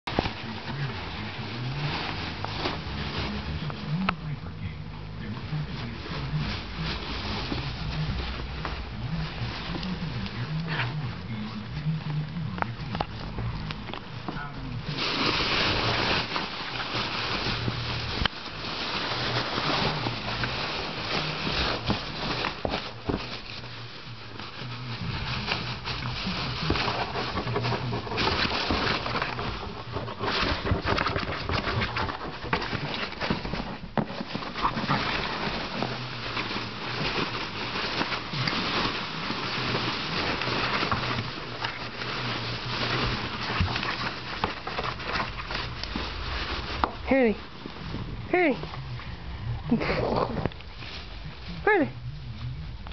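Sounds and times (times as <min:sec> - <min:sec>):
foam packing peanuts rustling: 0:00.1 - 0:52.9.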